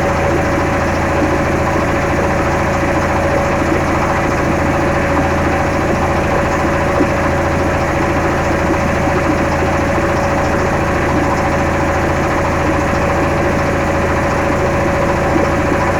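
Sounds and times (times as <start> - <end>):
engine running steadily: 0.0 - 15.9.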